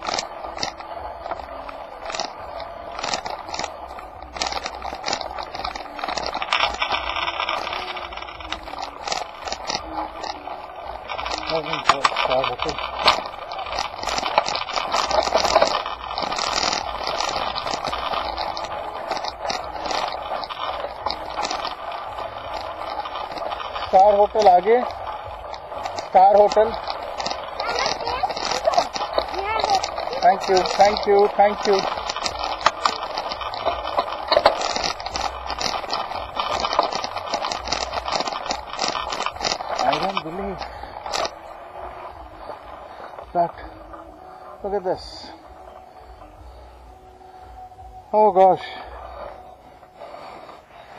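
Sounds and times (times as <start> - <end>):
low wind rumble: 0.0 - 50.9
wheels crunching on gravel: 0.0 - 50.9.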